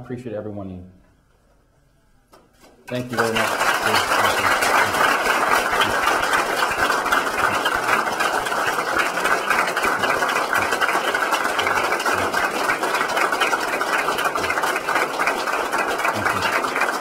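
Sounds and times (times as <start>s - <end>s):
audience applauding: 2.9s - 17.0s.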